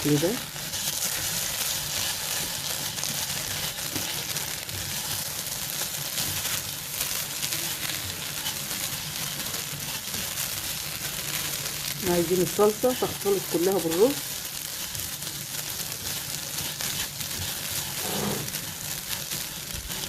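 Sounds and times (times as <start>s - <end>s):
rice sizzling in a pan: 0.0s - 20.0s
stirring in a pan: 0.0s - 20.0s.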